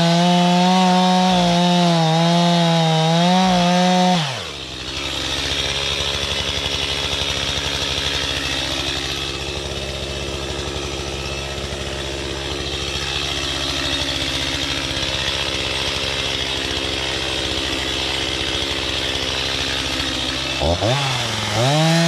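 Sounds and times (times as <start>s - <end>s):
chainsaw engine running: 0.0s - 22.0s.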